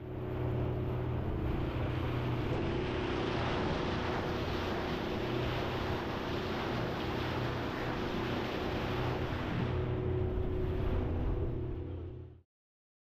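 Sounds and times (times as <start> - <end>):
boat engine humming: 0.0 - 12.4
water: 0.0 - 12.4
wind: 0.0 - 12.4.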